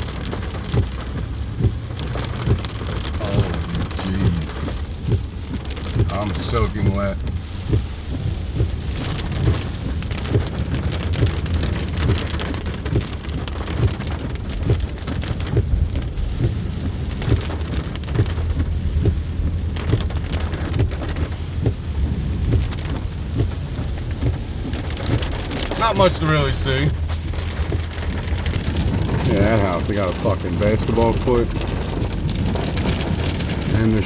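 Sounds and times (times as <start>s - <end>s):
car rumbling on wet road: 0.0s - 34.0s
heavy rain hitting car: 0.0s - 34.0s.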